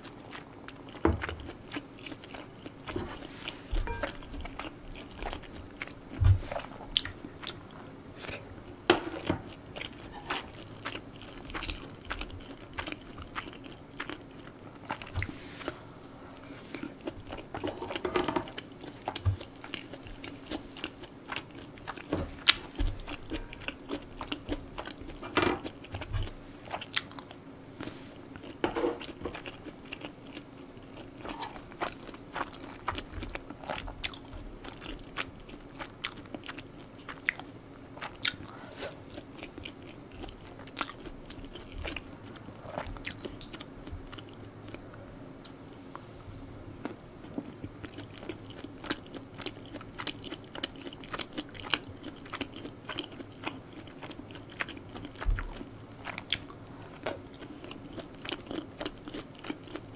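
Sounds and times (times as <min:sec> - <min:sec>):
person chewing: 0:00.0 - 0:46.1, 0:46.8 - 0:59.9.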